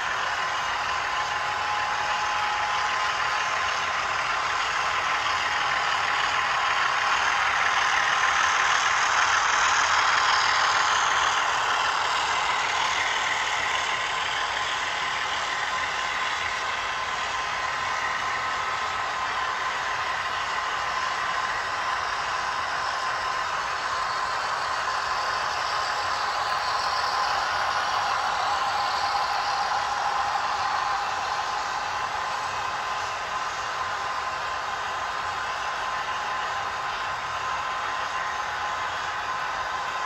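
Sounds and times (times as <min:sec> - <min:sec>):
faint motor whine: 0:00.0 - 0:40.0
model train running on track: 0:00.0 - 0:40.0.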